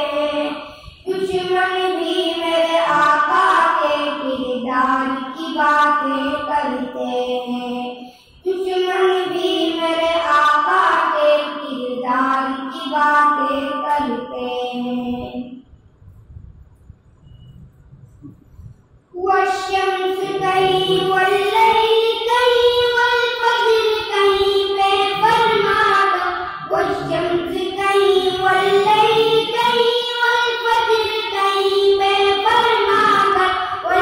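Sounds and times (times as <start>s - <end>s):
boys singing devotional song: 0.0s - 15.5s, 19.2s - 34.0s.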